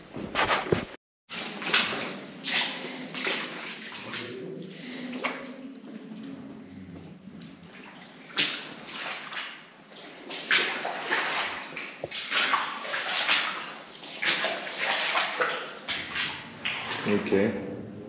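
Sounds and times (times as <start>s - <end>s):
footsteps splashing in shallow water: 1.3s - 17.4s.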